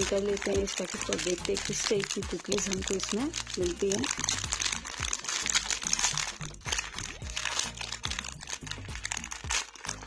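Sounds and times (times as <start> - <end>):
background music: 0.0 - 10.0
foil wrapper crinkling: 0.0 - 10.0.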